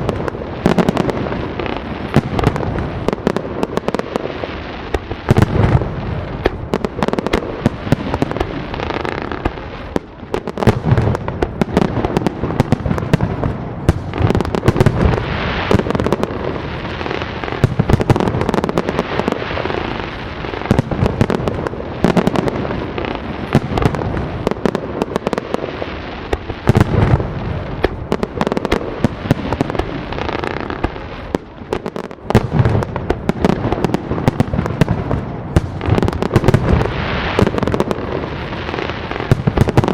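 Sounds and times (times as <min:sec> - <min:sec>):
deep firework booms: 0:00.0 - 0:39.9
fireworks crackling and popping: 0:00.0 - 0:39.9.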